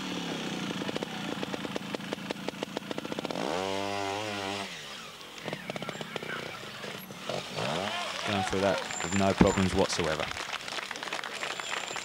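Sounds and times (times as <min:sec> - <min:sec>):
motorcycle engine popping and revving: 0:00.0 - 0:10.4.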